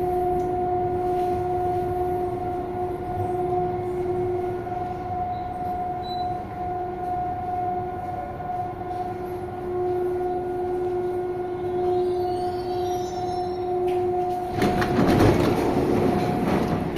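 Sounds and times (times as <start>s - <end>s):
train rumble: 0.0s - 16.9s.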